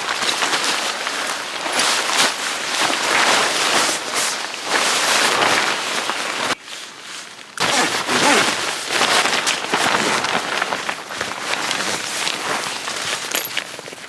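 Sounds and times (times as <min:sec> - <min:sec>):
tent fabric rustling: 0:00.0 - 0:14.0.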